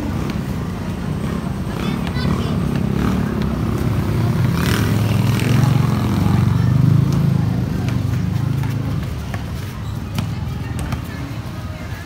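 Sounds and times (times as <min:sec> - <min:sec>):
motorcycle passing: 0:00.0 - 0:12.0.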